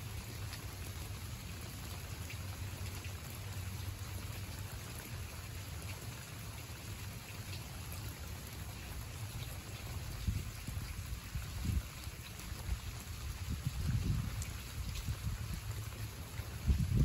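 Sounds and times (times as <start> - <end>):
raindrops ticking: 0.0 - 17.0
steady rain: 0.0 - 17.0.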